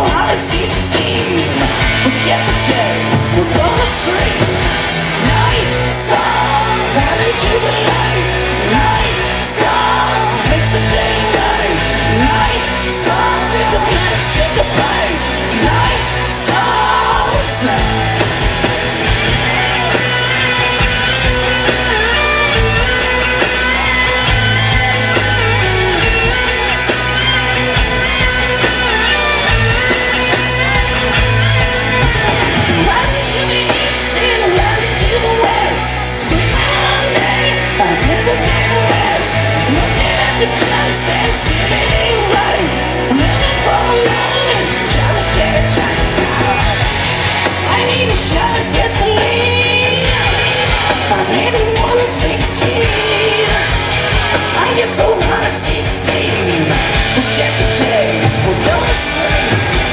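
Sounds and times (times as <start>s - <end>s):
bass guitar: 0.0s - 59.9s
distorted electric guitars: 0.0s - 59.9s
drums with cymbal crashes: 0.0s - 59.9s
lead vocalist singing: 0.0s - 59.9s.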